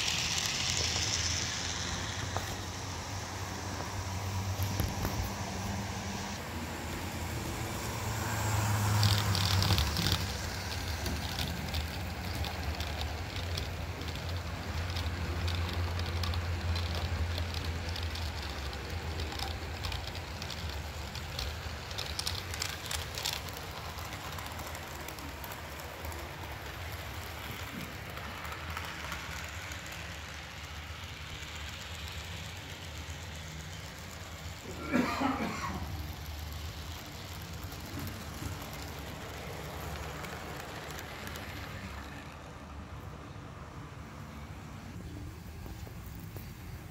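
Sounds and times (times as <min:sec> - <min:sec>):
model train rolling on track: 0:00.0 - 0:46.9.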